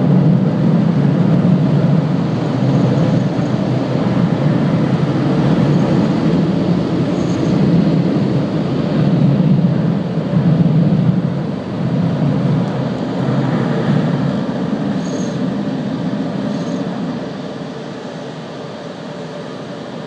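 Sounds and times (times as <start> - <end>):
car wash machinery rumbling: 0.0 - 20.0.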